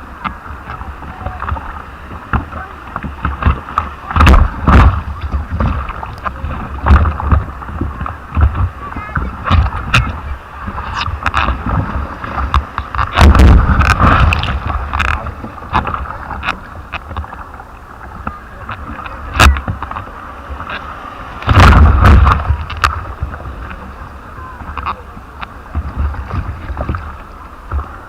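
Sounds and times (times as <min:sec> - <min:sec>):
water sloshing and splashing: 0:00.0 - 0:28.0
wind buffeting microphone: 0:00.0 - 0:28.0.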